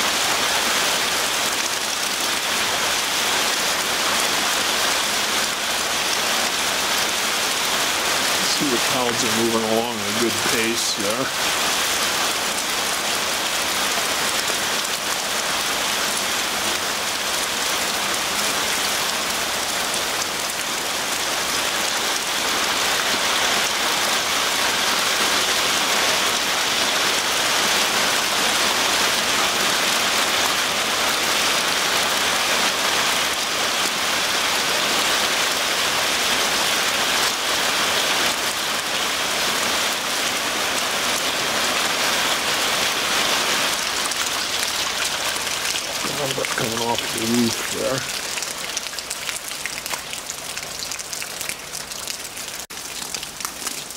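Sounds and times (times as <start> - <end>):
heavy rain and hail falling: 0.0 - 53.9.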